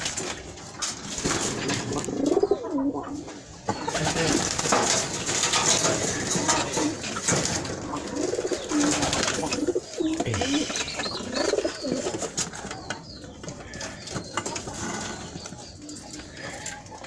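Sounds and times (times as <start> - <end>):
hen clucking: 1.7 - 17.0.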